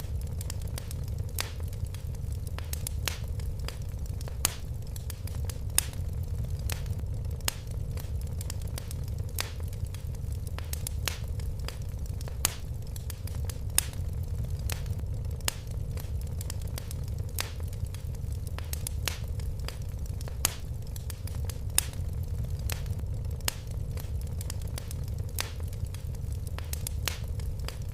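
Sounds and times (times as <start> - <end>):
fireplace fire crackling: 0.0 - 27.9.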